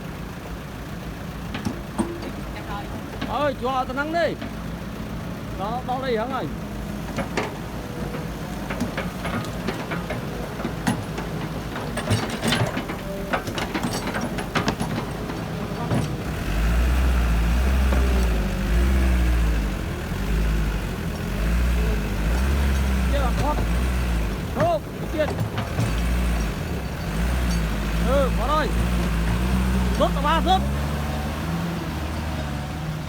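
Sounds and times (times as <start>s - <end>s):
heavy diesel engine rumbling: 0.0s - 33.0s
metal clanks and knocks: 1.4s - 4.9s, 5.8s - 32.7s.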